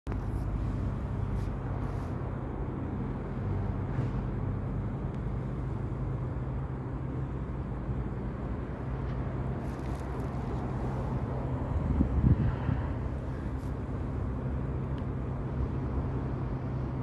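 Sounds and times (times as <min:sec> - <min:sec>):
vehicle engine running: 0:00.1 - 0:17.0.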